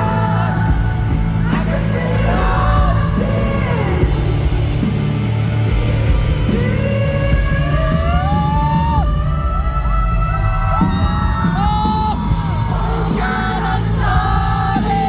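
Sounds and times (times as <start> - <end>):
live pop-rock band: 0.0 - 15.0.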